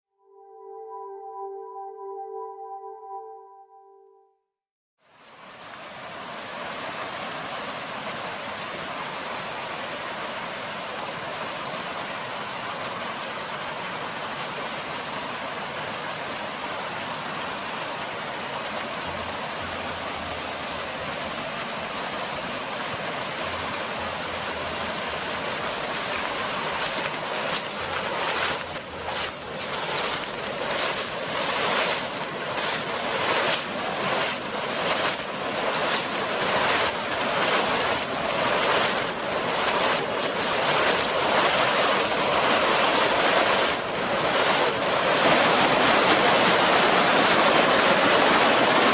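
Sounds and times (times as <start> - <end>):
water splashing surges: 5.1 - 48.9
river rushing over rocks: 5.2 - 48.9.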